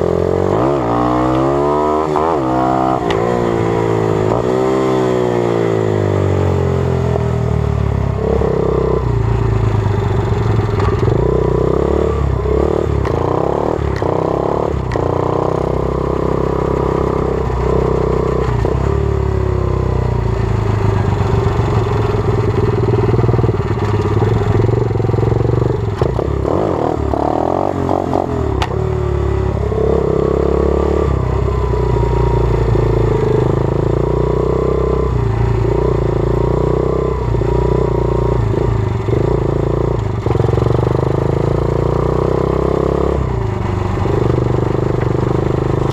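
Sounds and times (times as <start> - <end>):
motorbike engine revving: 0.0 - 7.0, 8.1 - 19.6, 20.5 - 31.5, 32.4 - 45.9.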